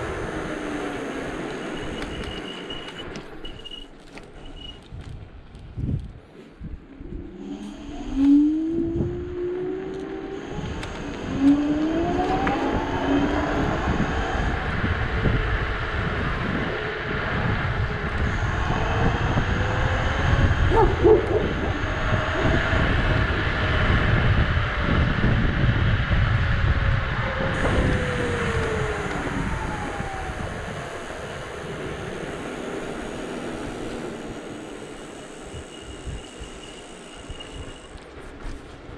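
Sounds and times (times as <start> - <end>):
electric scooter motors whining: 0.0 - 5.2, 6.4 - 38.9
wind and tyre noise: 0.0 - 38.9.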